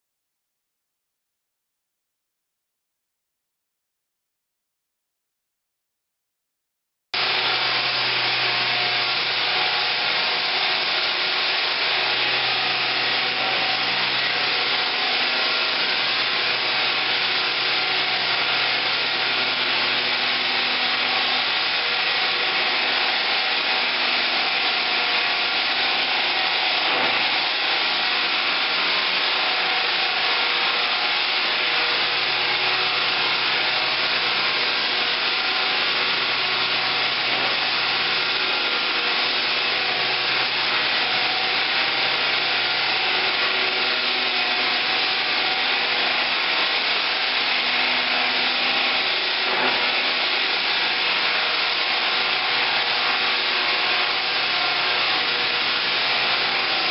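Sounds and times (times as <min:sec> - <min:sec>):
floor sander motor hum: 0:07.2 - 0:56.9.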